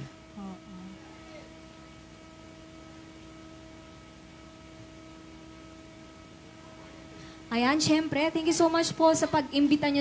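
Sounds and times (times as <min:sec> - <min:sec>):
faint electrical hum with hiss: 0:00.0 - 0:10.0.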